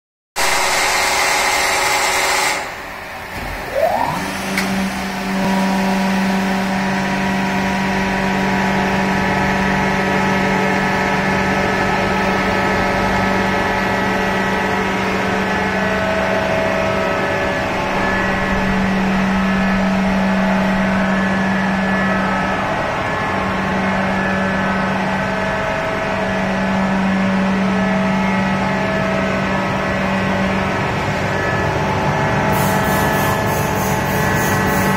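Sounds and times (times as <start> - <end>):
hydraulic pump hum and whine: 0.4 - 34.9
loud rushing noise: 0.4 - 34.9.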